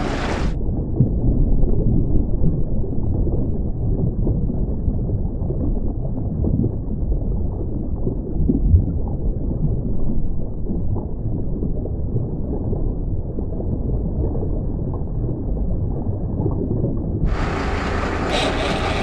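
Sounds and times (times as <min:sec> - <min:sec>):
muffled underwater rumble: 0:00.0 - 0:19.0.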